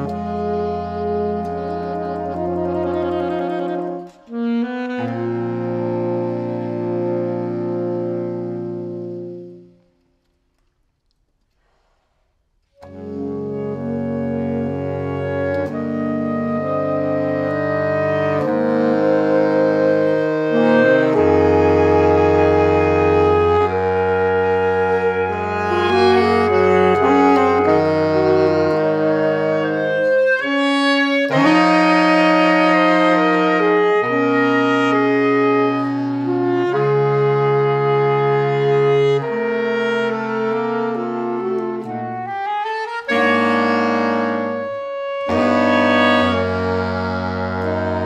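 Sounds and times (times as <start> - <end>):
saxophone quartet chords: 0.0 - 10.8, 12.6 - 48.0.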